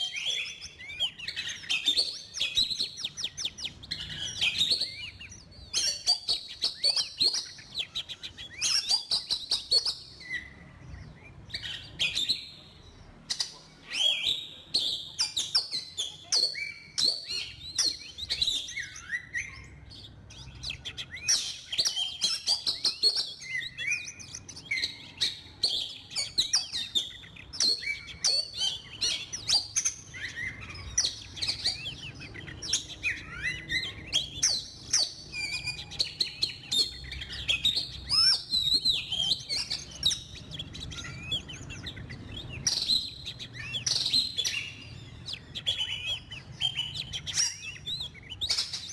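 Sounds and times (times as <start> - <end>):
songbird whistling and chirping: 0.0 - 48.9.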